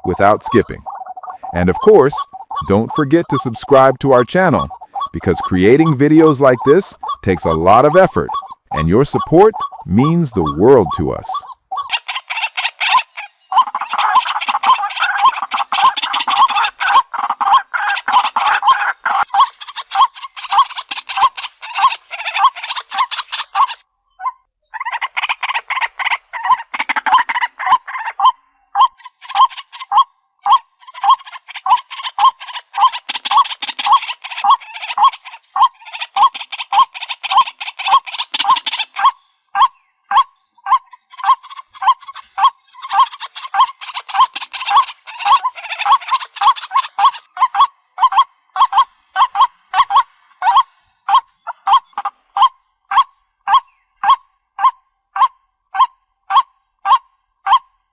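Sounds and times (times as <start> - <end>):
bird short repeated calls: 0.0 - 57.7
rough noisy bird calling: 0.0 - 57.7.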